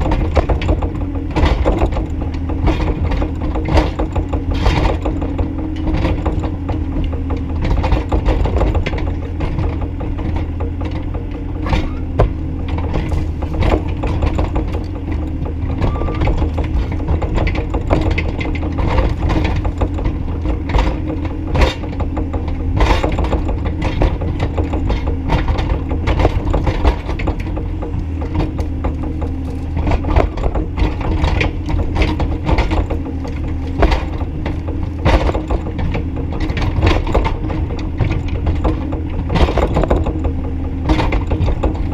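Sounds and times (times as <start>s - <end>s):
excavator clanks and knocks: 0.0s - 41.9s
excavator diesel engine running: 0.0s - 41.9s.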